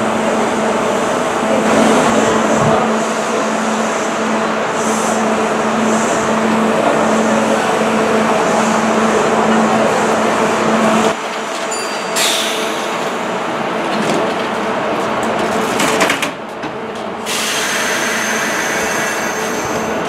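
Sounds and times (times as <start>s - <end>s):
stopped train humming: 0.0s - 20.0s.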